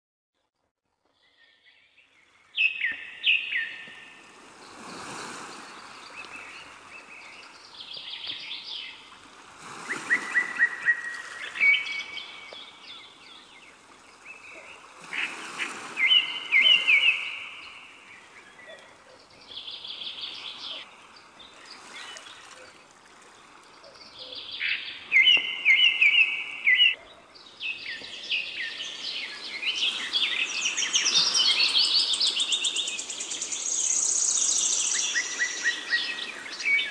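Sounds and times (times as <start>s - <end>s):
birds singing and chirping: 1.2s - 9.0s, 9.9s - 36.9s.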